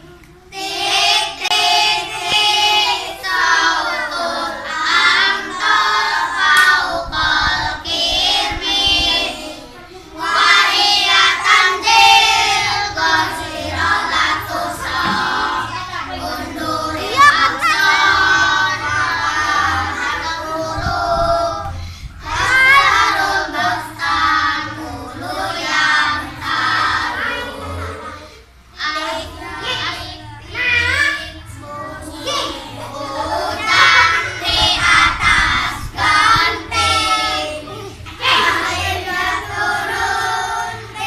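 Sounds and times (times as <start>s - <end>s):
children singing together: 0.0s - 41.0s.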